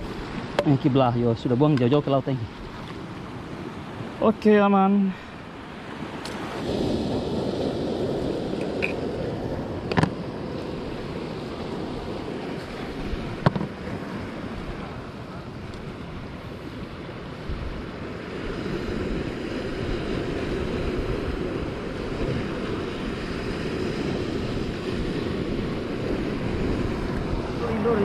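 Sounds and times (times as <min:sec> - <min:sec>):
sea surf: 0:00.0 - 0:28.0
wind buffeting microphone: 0:00.0 - 0:28.0.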